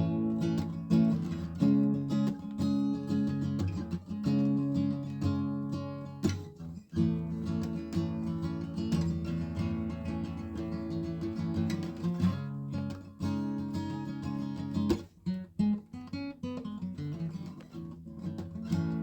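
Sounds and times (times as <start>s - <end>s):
acoustic guitar strumming and plucking: 0.0s - 19.0s.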